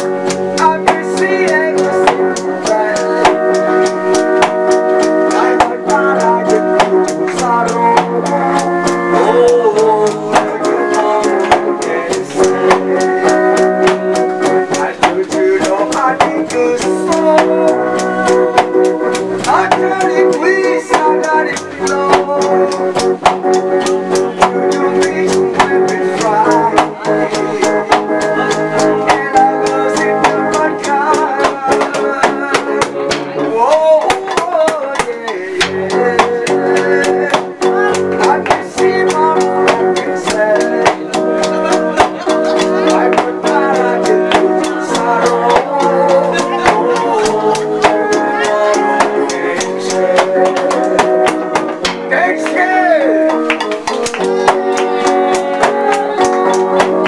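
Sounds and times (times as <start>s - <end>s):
electric guitar: 0.0s - 57.0s
man singing a slow pop song: 0.0s - 57.0s
steady drum beat: 0.0s - 57.0s.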